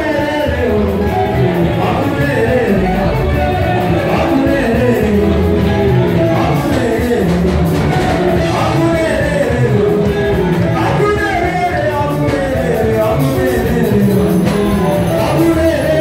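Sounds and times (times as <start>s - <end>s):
instrumental accompaniment: 0.0s - 16.0s
voices singing a worship song: 0.0s - 16.0s.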